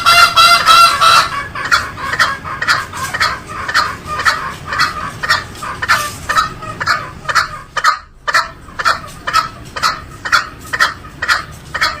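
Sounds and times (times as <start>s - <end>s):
junglefowl calling: 0.0s - 12.0s.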